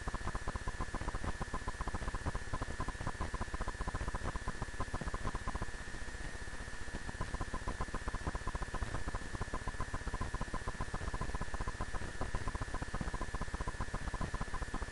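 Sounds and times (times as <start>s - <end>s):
faint high whine: 0.0s - 14.9s
rapid crackling static: 0.0s - 14.9s.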